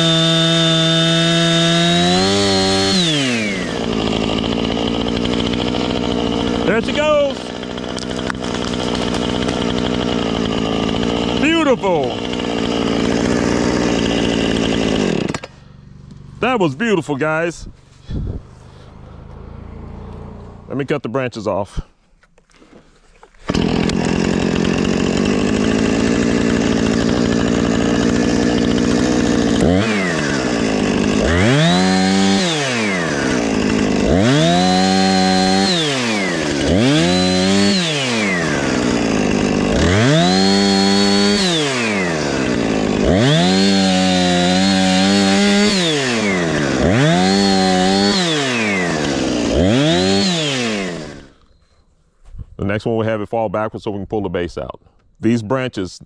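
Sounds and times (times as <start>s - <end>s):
chainsaw revving: 0.0s - 20.8s, 22.7s - 51.4s.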